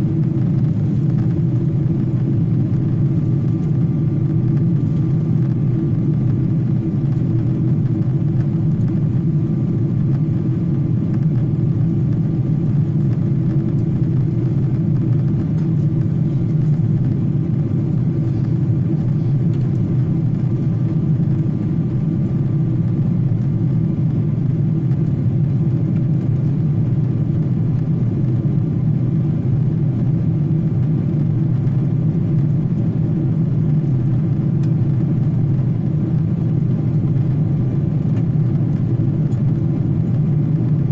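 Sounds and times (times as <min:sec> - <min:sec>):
faint steady whine: 0:00.0 - 0:40.9.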